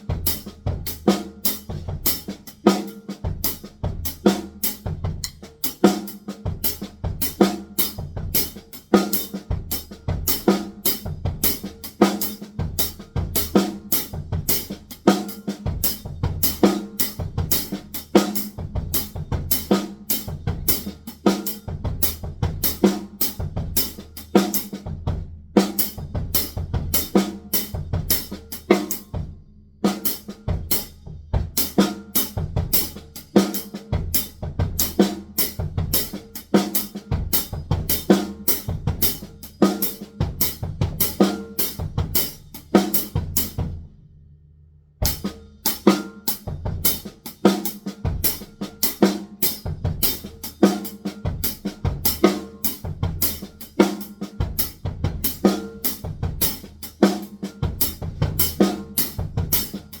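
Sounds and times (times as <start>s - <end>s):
drum kit playing: 0.0s - 44.0s, 45.0s - 60.0s.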